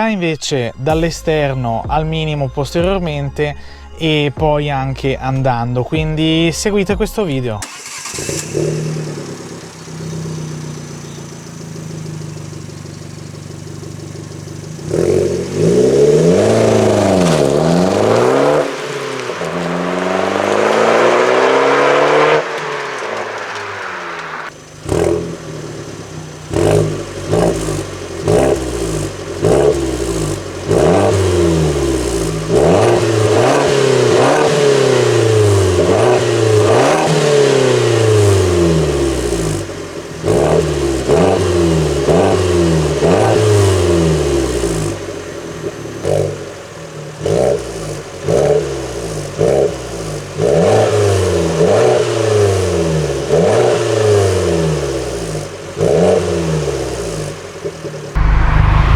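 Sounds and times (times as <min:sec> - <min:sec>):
car engine revving: 0:07.6 - 0:58.9.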